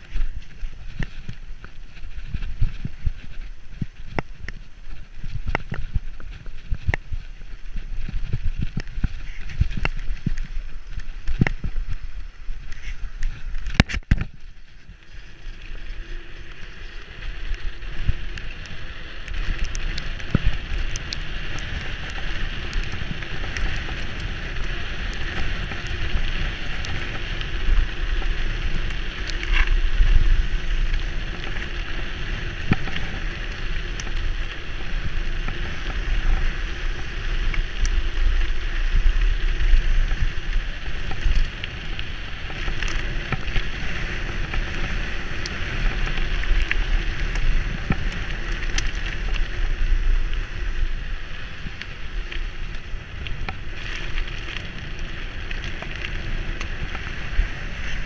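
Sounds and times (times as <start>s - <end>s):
tyres rolling on tarmac: 0.0s - 58.0s
wind buffeting microphone: 0.0s - 58.0s.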